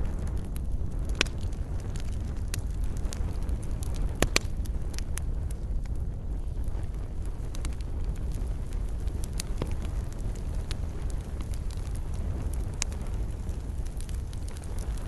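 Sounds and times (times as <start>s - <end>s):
low rumble of flames: 0.0s - 15.0s
wood crackling and popping: 0.0s - 15.0s.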